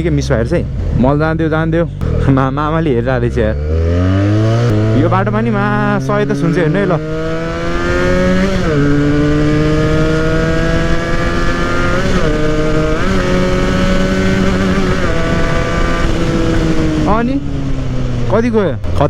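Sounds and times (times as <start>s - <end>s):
motorcycle accelerating hard: 2.0s - 19.0s.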